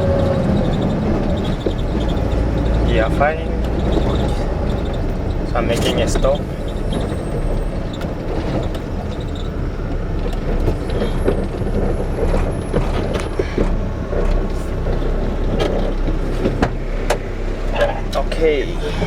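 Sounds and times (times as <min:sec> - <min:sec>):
road rumble: 0:00.0 - 0:19.0
truck diesel engine: 0:00.0 - 0:19.0.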